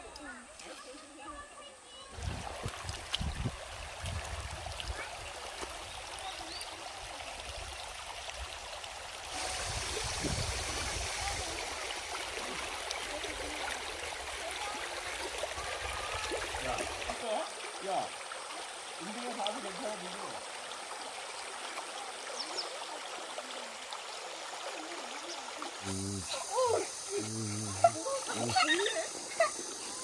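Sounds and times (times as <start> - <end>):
stream rushing over rocks: 2.1 - 30.0.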